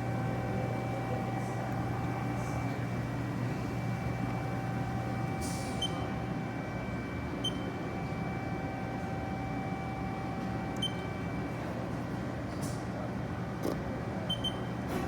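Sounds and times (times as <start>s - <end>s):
lathe mechanical hum and whine: 0.0s - 15.0s.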